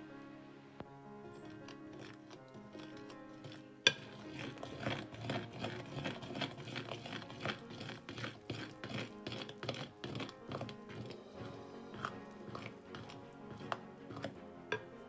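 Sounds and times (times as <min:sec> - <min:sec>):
fork scraping a bowl: 0:01.3 - 0:14.9.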